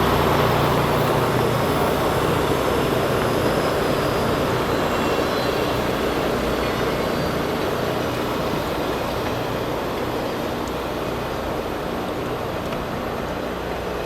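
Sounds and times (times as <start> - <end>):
grinding wheels on rail: 0.0 - 14.0
machine engine drone: 0.0 - 14.0.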